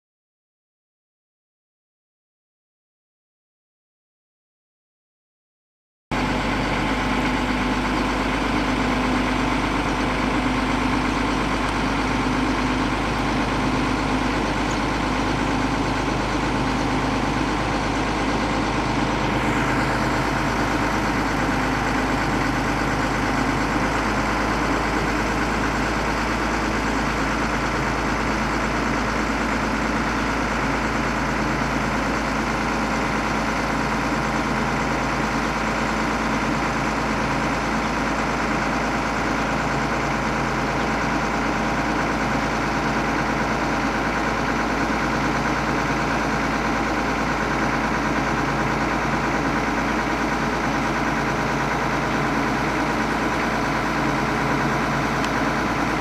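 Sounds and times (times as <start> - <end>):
diesel truck engine idling: 6.1 - 56.0.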